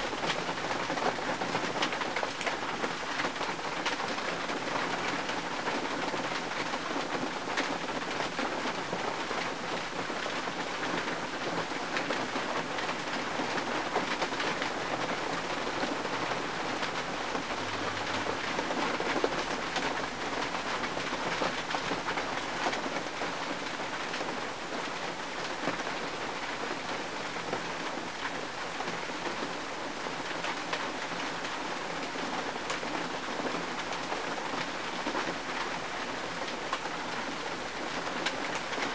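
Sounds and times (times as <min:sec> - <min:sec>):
rain pattering on windshield: 0:00.0 - 0:38.9.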